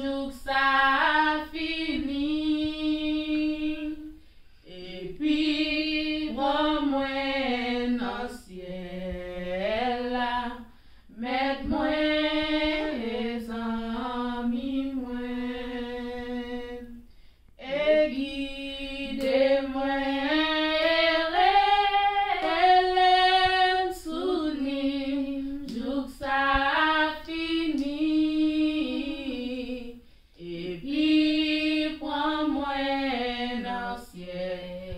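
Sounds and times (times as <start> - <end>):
women singing a cappella: 0.0 - 34.9.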